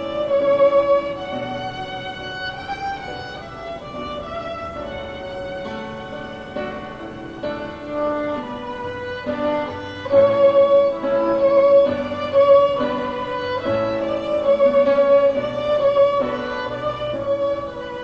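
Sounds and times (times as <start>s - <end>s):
bowed strings melody: 0.0s - 18.0s.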